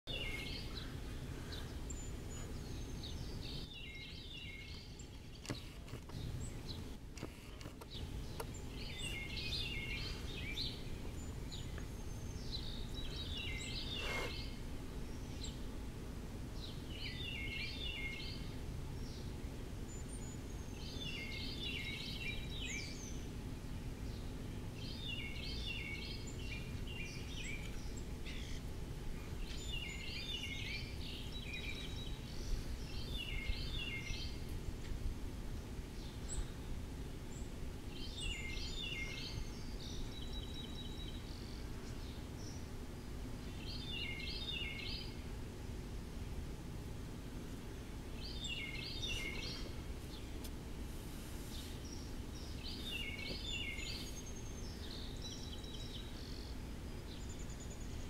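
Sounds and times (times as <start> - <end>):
songbird singing: 0.1 - 58.0.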